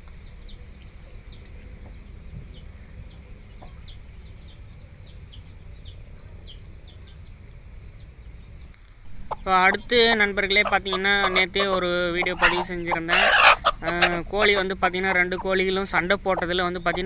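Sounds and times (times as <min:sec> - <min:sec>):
birds cheeping: 0:00.0 - 0:17.0
low steady rumble: 0:00.0 - 0:17.0.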